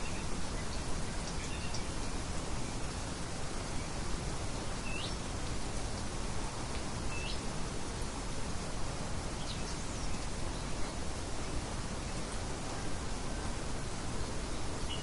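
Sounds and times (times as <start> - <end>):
light wind hiss: 0.0 - 15.0.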